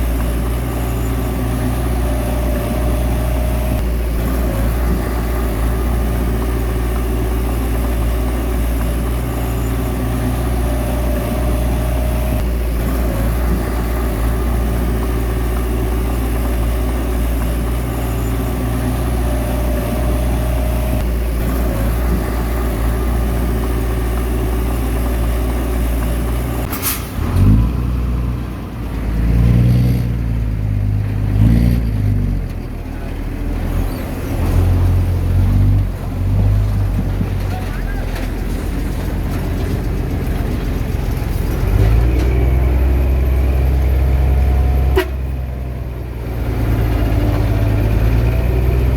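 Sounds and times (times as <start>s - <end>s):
bulldozer diesel engine droning: 0.0s - 48.9s.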